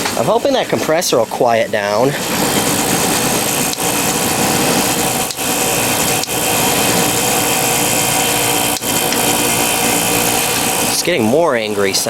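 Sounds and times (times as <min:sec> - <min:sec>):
air conditioner compressor buzzing: 0:00.0 - 0:12.0.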